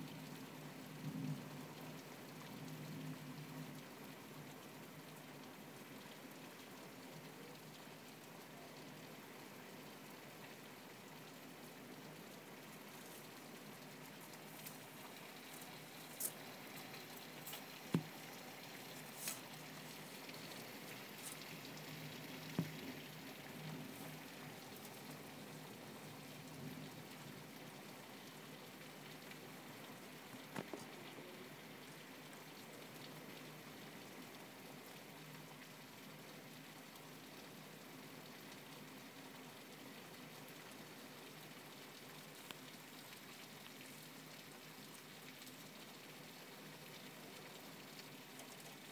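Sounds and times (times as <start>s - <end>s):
light rain falling: 0.0s - 48.9s.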